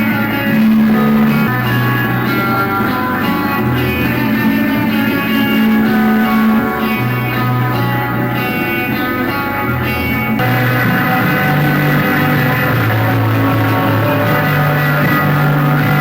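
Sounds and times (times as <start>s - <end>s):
band playing loud guitar music: 0.0s - 16.0s
bass line: 0.0s - 16.0s.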